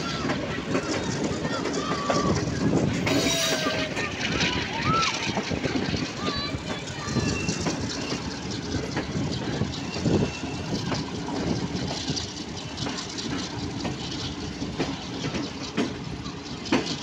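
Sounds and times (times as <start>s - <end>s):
train carriage rumbling: 0.0s - 17.0s
wheels clacking over rail joints: 0.0s - 17.0s.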